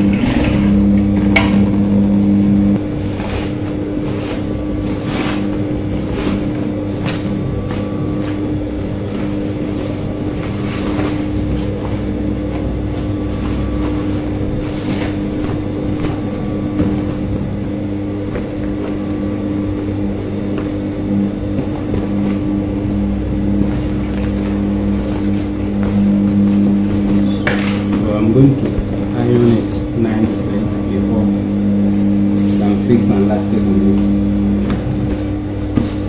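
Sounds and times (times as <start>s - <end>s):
sewing machine motor hum: 0.0s - 36.0s
cloth rustling: 1.8s - 36.0s.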